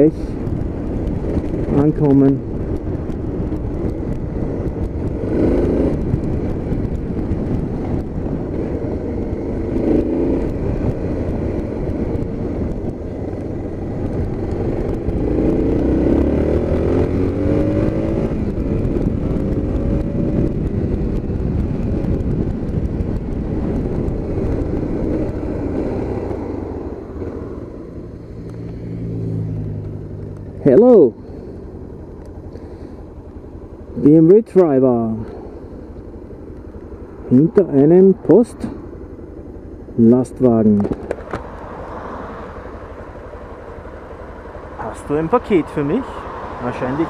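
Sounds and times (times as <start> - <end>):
motorcycle engine accelerating: 0.0 - 47.0
wind rumble on microphone: 0.0 - 47.0.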